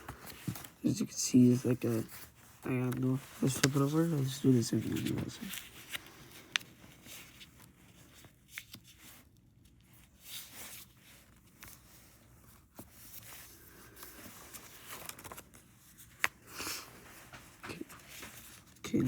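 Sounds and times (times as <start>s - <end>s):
paper rustling and creasing: 0.0s - 19.0s.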